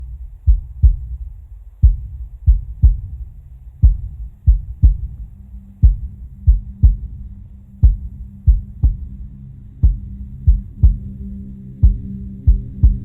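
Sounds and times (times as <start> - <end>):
deep booming beats: 0.0 - 13.0.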